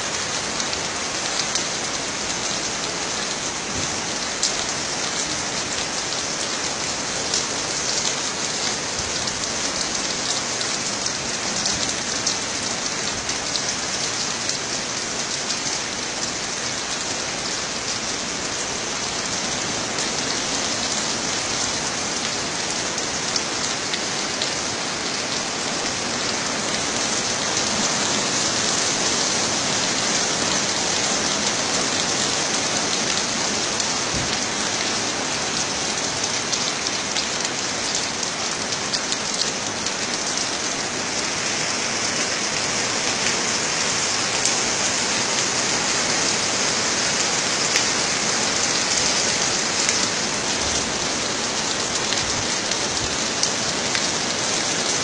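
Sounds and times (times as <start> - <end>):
rain falling on road and cars: 0.0 - 55.0.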